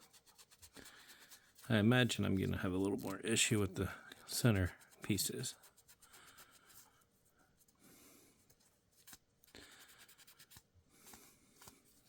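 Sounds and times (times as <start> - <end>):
rubbing and scratching paper: 0.0 - 3.6, 4.2 - 7.8, 8.4 - 12.0.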